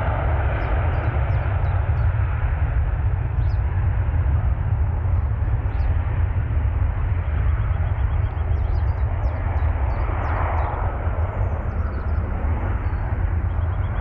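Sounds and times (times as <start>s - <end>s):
jet engine noise: 0.0s - 14.0s
wind rumble on microphone: 0.0s - 14.0s.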